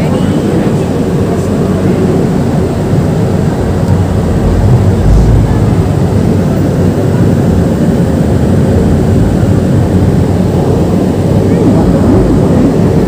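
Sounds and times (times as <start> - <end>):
funicular car rumbling on track: 0.0 - 13.0.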